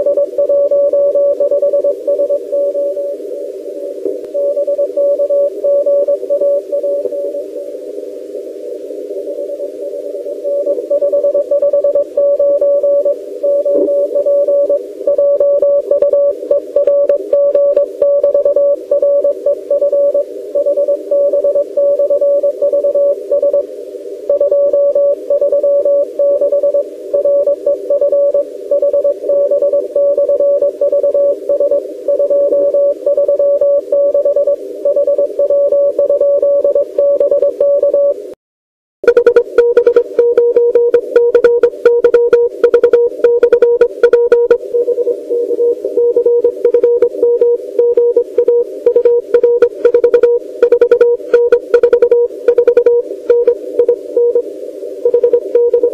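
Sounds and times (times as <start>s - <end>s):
morse code tone: 0.0s - 3.1s, 4.4s - 7.4s, 10.4s - 23.6s, 24.3s - 38.2s, 39.0s - 55.9s
radio receiver hiss: 0.0s - 38.3s, 39.5s - 55.9s.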